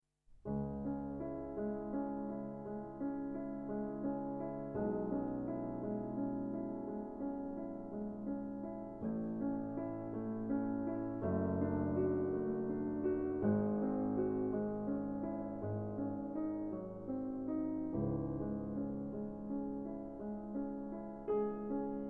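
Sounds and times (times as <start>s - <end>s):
gentle piano chords: 0.4s - 22.0s.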